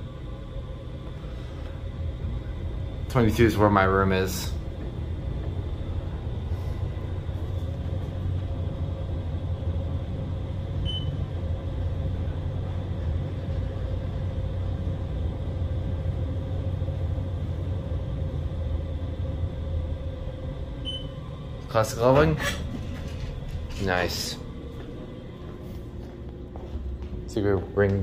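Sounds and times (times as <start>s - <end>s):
elevator ride rumble: 0.0s - 28.0s
faint steady hum: 0.0s - 28.0s.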